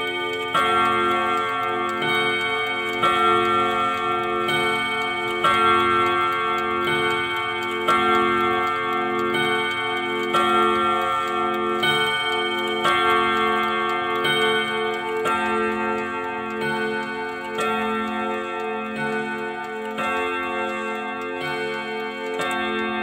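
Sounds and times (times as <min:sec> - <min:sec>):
chiming clock striking gongs: 0:00.0 - 0:23.0.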